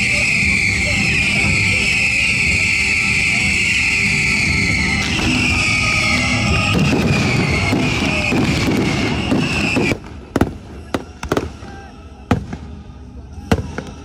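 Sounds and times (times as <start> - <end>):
fireworks bangs: 0.0 - 12.8, 13.4 - 14.0
fireworks rushing: 0.0 - 14.0.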